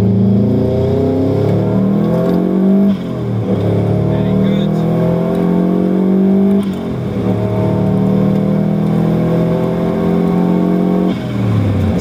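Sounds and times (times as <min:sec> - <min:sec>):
car engine revving through gears: 0:00.0 - 0:12.0.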